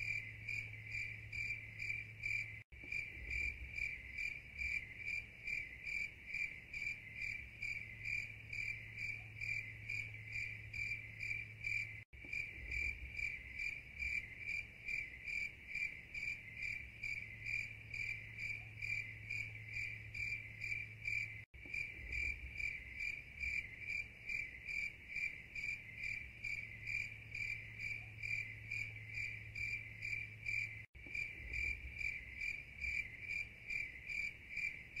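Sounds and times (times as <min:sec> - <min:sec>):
insects chirping: 0:00.0 - 0:35.0.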